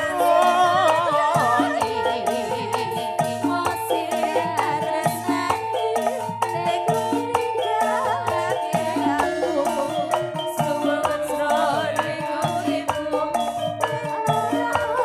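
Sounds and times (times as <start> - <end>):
live band music: 0.0 - 15.0
percussion beat: 0.0 - 15.0.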